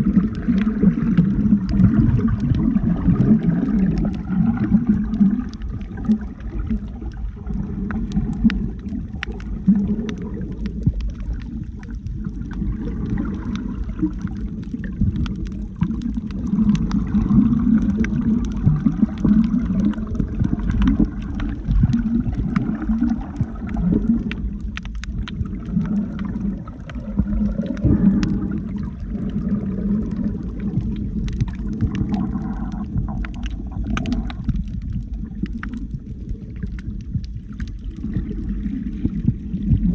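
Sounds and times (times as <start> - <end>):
muffled underwater water rumble: 0.0 - 39.9
sharp underwater clicks: 0.0 - 39.9.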